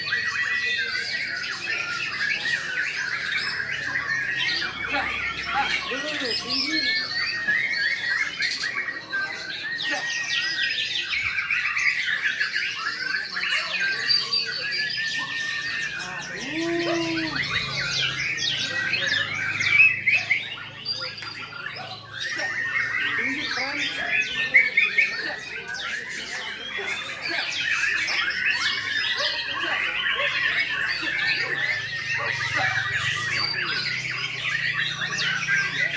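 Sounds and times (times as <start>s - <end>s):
birds singing in chorus: 0.0s - 35.9s
songbirds whistling and trilling: 0.0s - 35.9s.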